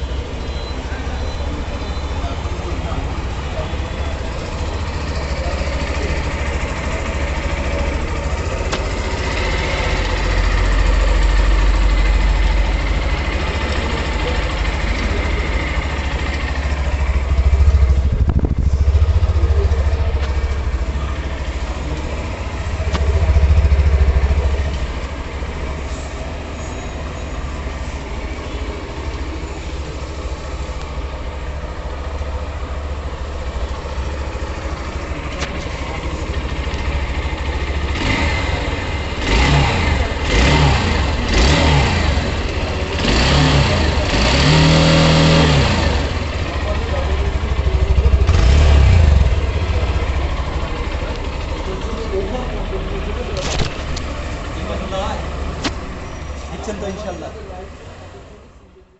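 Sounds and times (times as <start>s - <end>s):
motorcycle engine idling and revving: 0.0s - 58.9s.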